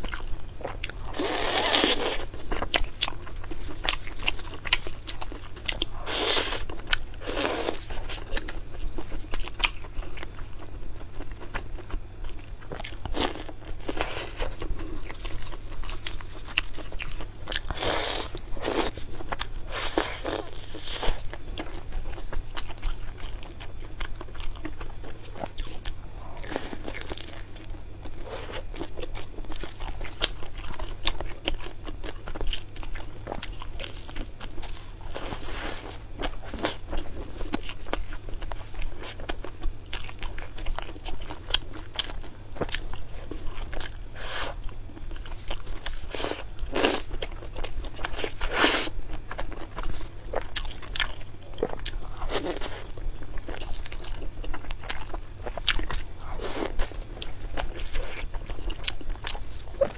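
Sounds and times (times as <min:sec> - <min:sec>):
person chewing meat: 0:00.0 - 0:59.9.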